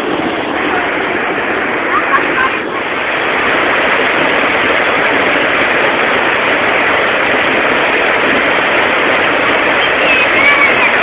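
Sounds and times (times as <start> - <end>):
river water rushing over weir: 0.0 - 11.0.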